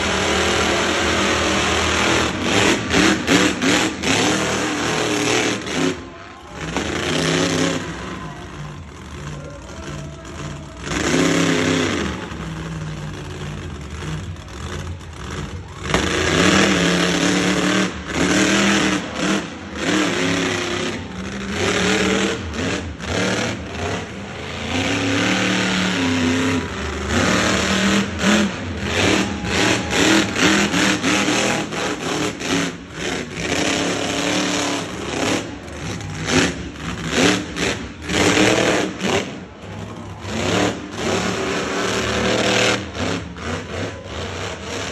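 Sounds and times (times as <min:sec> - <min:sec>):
monster truck engines revving: 0:00.0 - 0:44.9.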